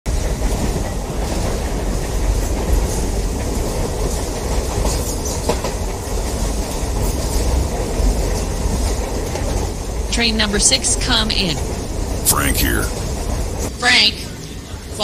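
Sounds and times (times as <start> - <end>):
subway train rumbling on track: 0.1 - 12.3.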